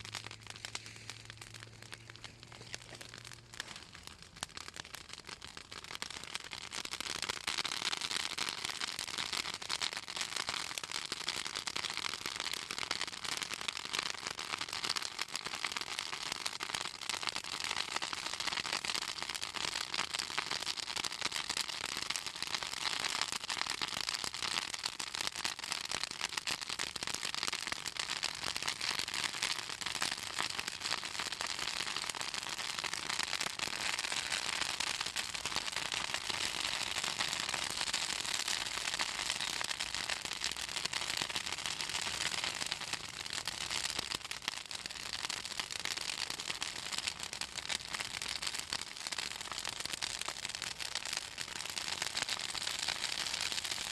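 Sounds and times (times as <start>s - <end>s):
bonfire crackling and popping: 0.0s - 53.9s.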